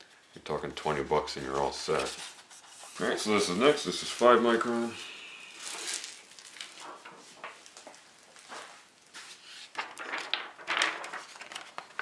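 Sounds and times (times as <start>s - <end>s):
plastic sheet rustling and crinkling: 1.0s - 12.0s.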